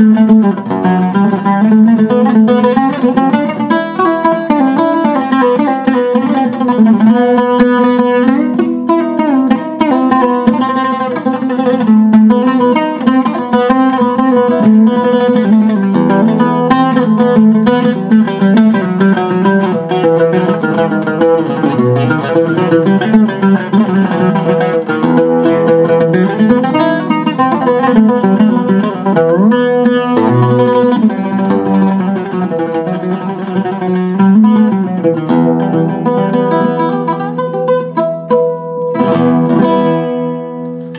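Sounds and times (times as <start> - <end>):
oud plucked melody: 0.0 - 40.9.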